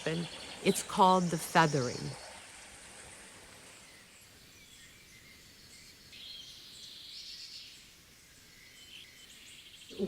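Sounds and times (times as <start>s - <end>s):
birds chirping: 0.0s - 10.0s
insects: 0.0s - 10.0s.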